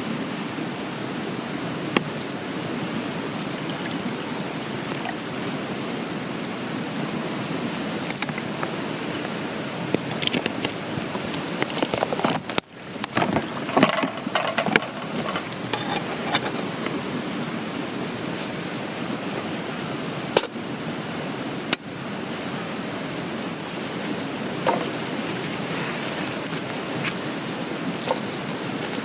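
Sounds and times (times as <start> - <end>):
flowing river water: 0.0 - 29.0.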